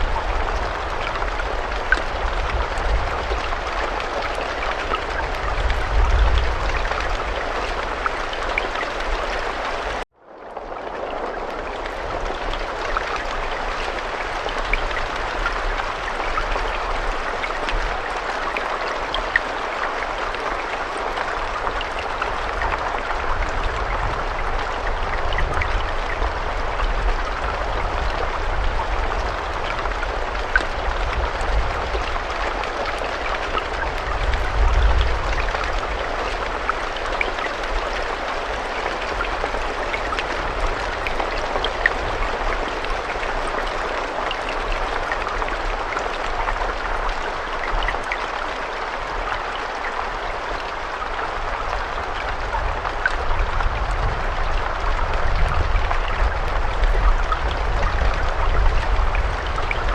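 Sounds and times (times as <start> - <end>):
raindrops ticking: 0.0 - 59.9
steady rainfall: 0.0 - 59.9.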